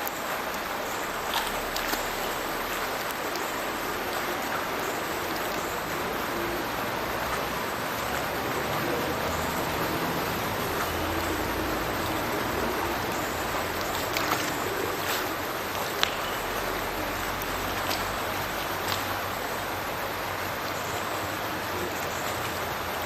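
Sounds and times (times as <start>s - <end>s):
sharp water splashes: 0.0s - 23.0s
water pouring into river: 0.0s - 23.0s.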